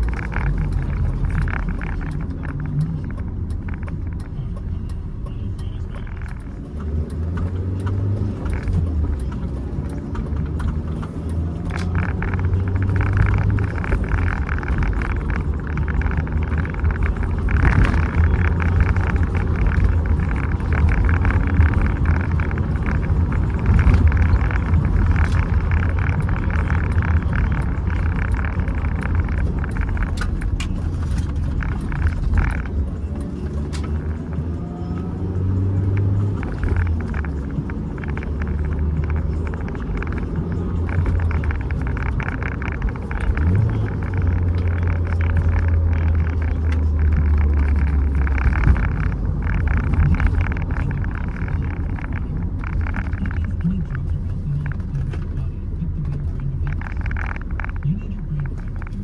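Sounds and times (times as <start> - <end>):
car engine running: 0.0 - 59.0
road and wind noise: 0.0 - 59.0.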